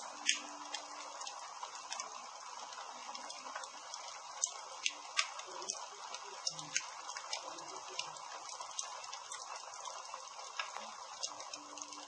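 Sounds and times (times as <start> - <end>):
campfire hissing: 0.0 - 12.0
fire crackles and pops: 0.0 - 12.0.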